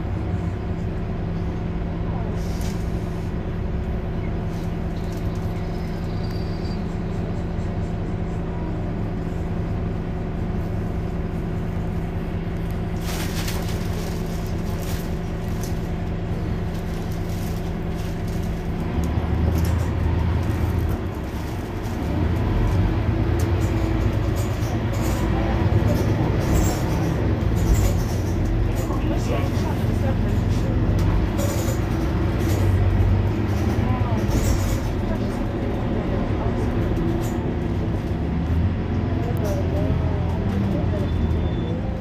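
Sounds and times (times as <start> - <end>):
bus engine hum: 0.0 - 42.0
deep engine rumble: 0.0 - 42.0.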